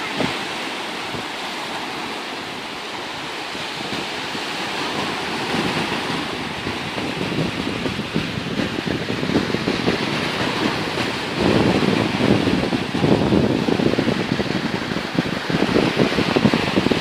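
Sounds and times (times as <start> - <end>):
surf breaking on sand: 0.0 - 17.0
wind buffeting microphone: 0.0 - 17.0.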